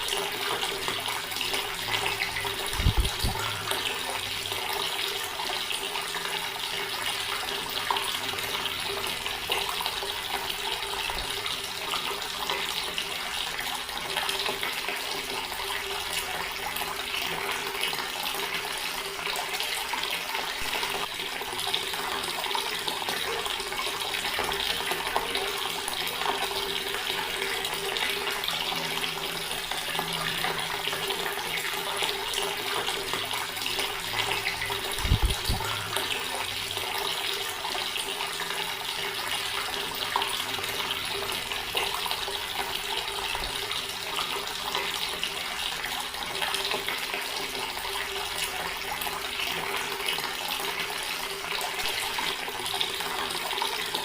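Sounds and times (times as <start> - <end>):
tap water running into basin: 0.0 - 54.0.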